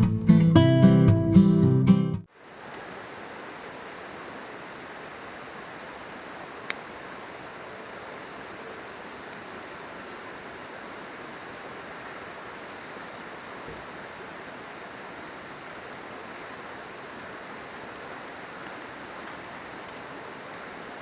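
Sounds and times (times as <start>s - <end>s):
faint campfire crackles: 2.3s - 21.0s
river water rushing: 2.3s - 21.0s.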